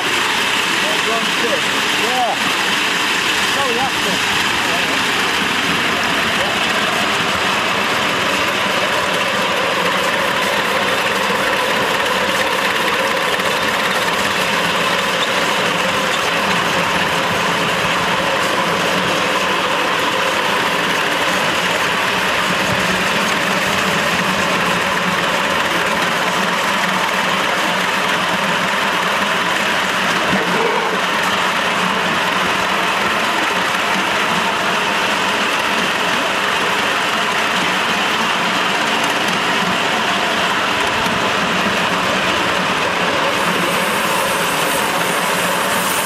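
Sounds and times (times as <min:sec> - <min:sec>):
miniature steam train running: 0:00.0 - 0:46.0.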